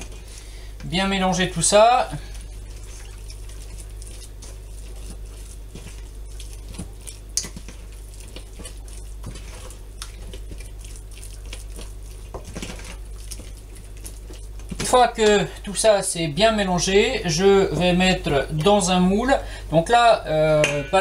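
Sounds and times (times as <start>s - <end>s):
batter squelching while stirred: 0.0s - 21.0s
steady low hum: 0.0s - 21.0s.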